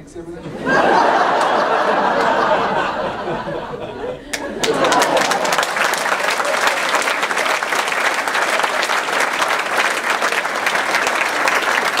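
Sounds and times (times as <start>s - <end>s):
audience applauding: 0.8s - 3.5s, 4.3s - 12.0s.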